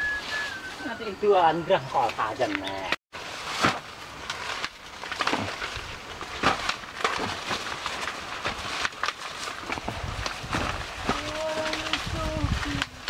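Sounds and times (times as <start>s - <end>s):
dry corn stalks rustling: 0.0s - 13.0s.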